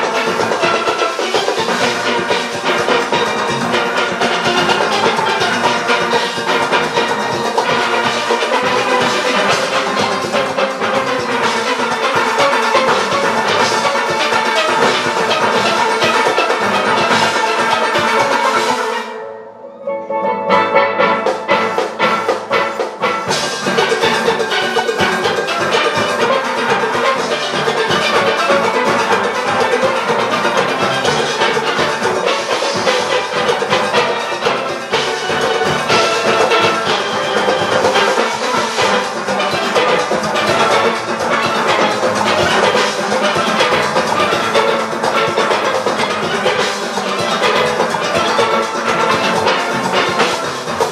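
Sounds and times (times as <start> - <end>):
drums: 0.0 - 19.1, 20.3 - 50.9
steelpans playing: 0.0 - 50.9.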